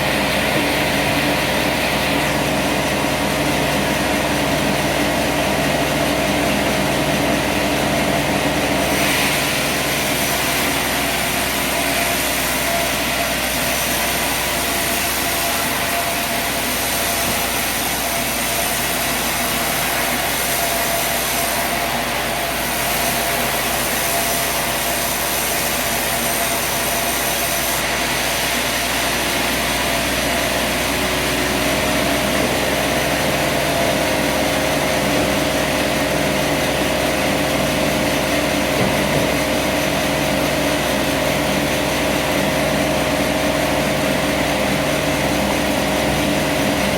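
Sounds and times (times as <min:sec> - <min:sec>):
sawmill running: 0:00.0 - 0:46.9.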